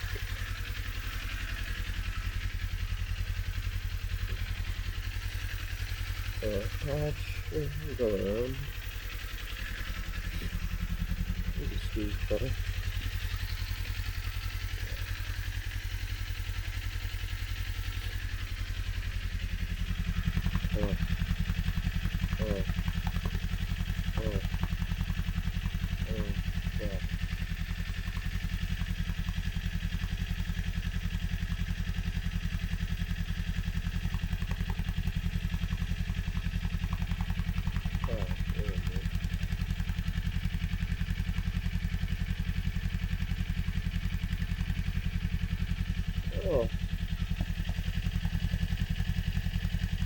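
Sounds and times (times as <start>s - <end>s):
motorcycle engine idling low revs: 0.0s - 50.0s.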